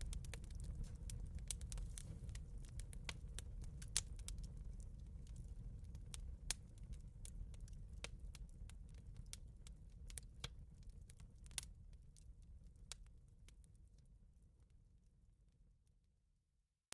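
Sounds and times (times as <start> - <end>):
fireplace crackling: 0.0 - 14.1.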